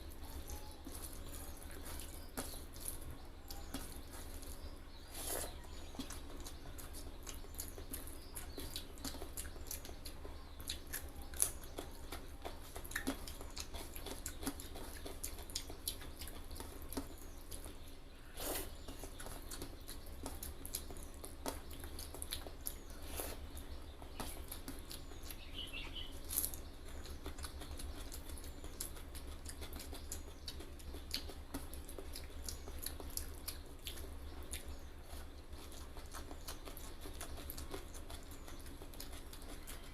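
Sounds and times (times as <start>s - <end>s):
steady low hum: 0.0s - 39.9s
wet chewing and mouth clicks: 0.0s - 39.9s.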